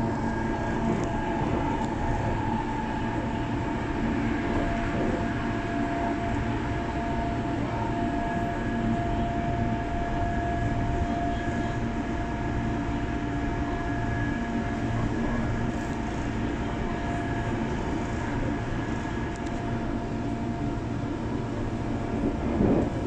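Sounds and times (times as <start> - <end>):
steady whine: 0.0 - 23.0
train rumble: 0.0 - 23.0.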